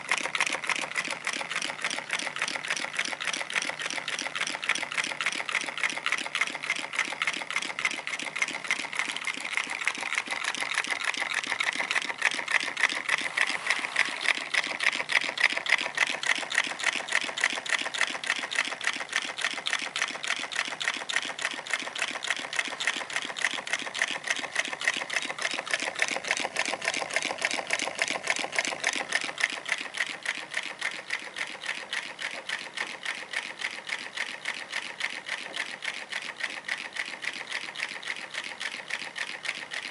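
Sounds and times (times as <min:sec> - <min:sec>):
engine parts clicking and rattling: 0:00.0 - 0:39.9.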